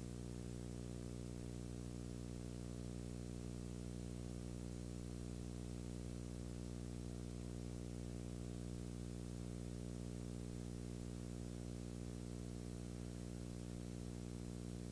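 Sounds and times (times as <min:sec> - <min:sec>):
electrical hum with buzz: 0:00.0 - 0:14.9.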